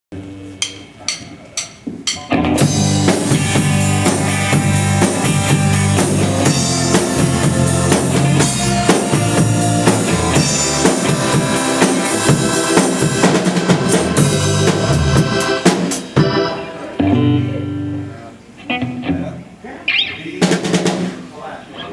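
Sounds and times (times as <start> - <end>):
band playing: 0.2 - 21.4.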